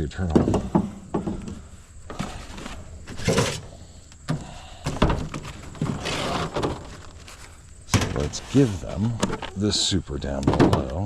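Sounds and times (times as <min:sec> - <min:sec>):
wooden knocks and scrapes: 0:00.2 - 0:09.6.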